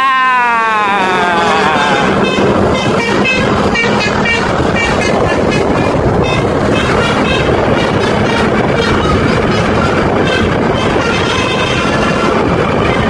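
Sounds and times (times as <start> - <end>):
engine hum: 0.0 - 13.0
wind rush: 0.0 - 13.0
bus horn playing high notes: 0.9 - 13.0.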